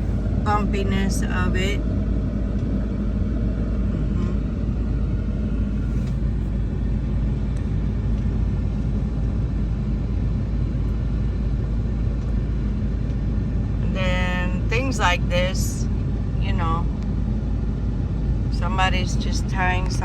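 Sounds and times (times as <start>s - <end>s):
engine hum: 0.0s - 20.0s.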